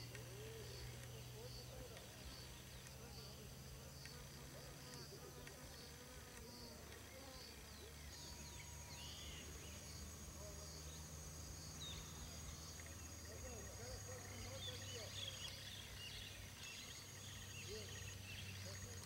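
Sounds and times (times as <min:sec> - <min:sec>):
insects chirping: 0:00.0 - 0:19.0
steady high insect whine: 0:00.0 - 0:19.0.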